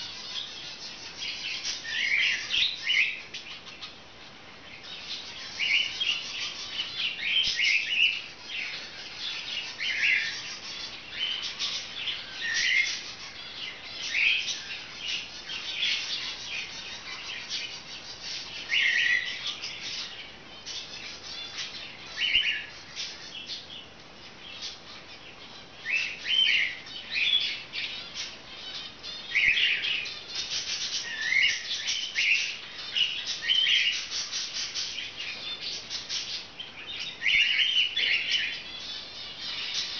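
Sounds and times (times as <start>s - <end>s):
budgerigars chirping: 0.0s - 39.9s
scratchy bird chatter: 0.0s - 39.9s.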